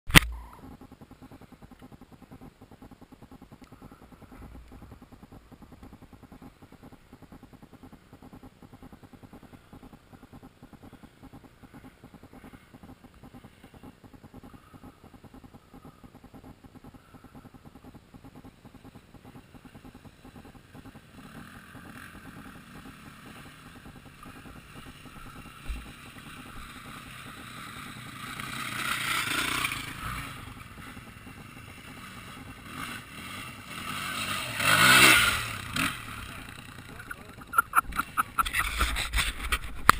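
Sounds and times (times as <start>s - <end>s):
dirt bike engines: 0.2s - 39.9s.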